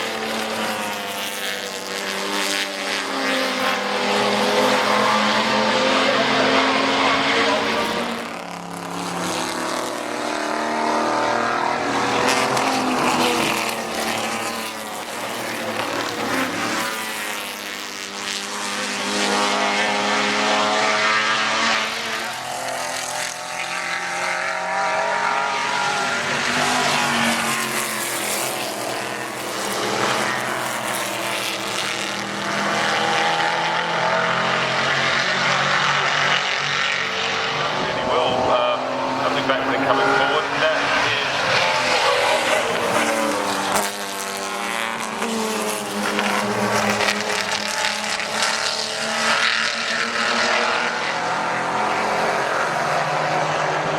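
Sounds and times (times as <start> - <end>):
race cars passing: 0.0 - 53.9.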